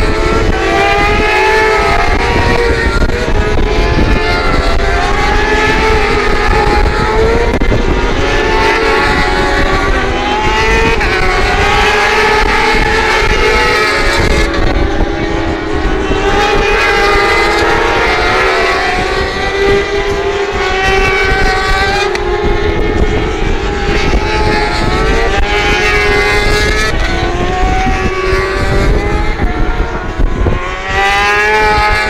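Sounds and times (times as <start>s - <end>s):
racing motorcycles at full throttle: 0.0s - 32.0s.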